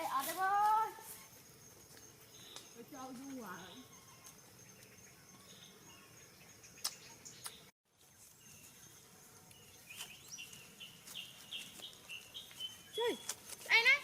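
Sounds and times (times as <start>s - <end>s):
high insect buzz: 0.0s - 14.0s
small birds chirping: 0.0s - 14.0s.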